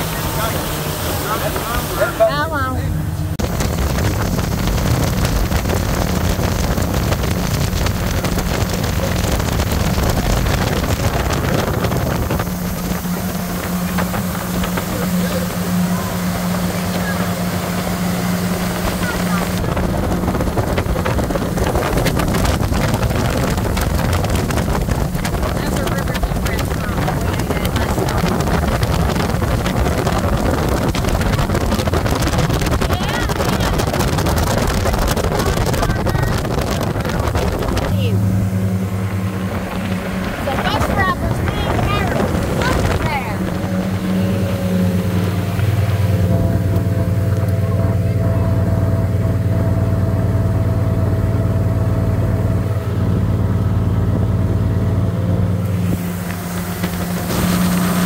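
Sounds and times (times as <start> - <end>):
motorboat engine drone: 0.0 - 58.0
water rushing along hull: 0.0 - 58.0
wind buffeting microphone: 3.2 - 58.0.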